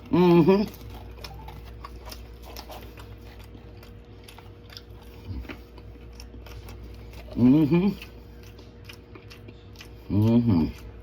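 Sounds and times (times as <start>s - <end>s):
low hum from person: 0.0s - 11.0s
person chewing food: 0.0s - 11.0s.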